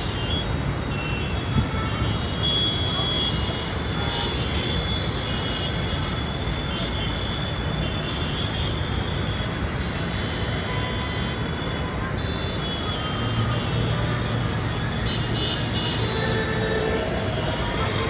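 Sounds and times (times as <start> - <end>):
street noise: 0.0 - 18.0
vehicle engines rumbling: 0.0 - 18.0.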